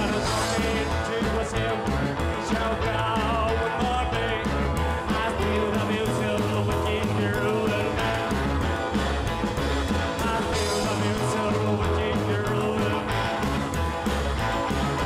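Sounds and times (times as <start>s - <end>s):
rock and roll song: 0.0s - 15.0s.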